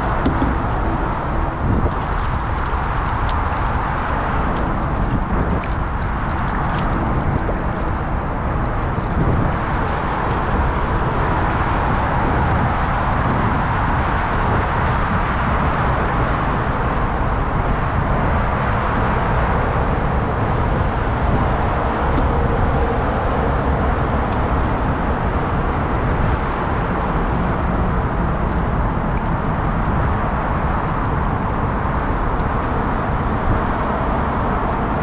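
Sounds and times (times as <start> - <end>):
water moving around kayak: 0.0 - 35.0
wind buffeting microphone: 0.0 - 35.0.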